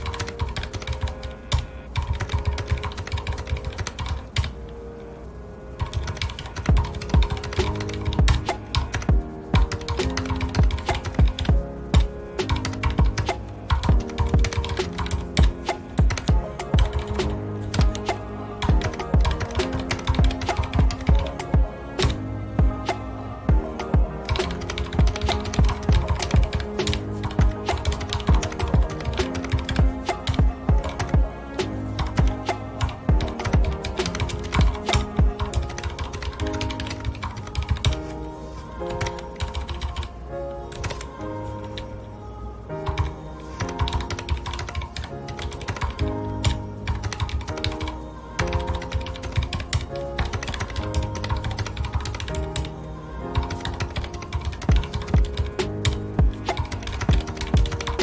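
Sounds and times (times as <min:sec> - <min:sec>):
background music with steady beat: 0:00.0 - 0:58.0.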